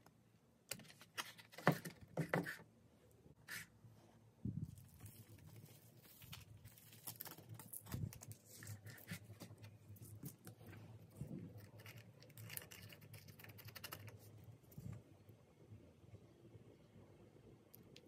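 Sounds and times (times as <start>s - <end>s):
low steady hum: 2.7s - 18.0s.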